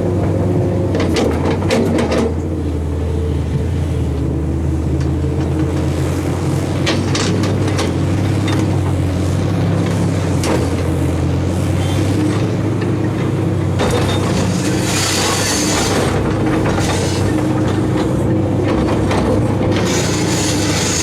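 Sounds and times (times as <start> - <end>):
diesel engine hum: 0.0 - 21.0.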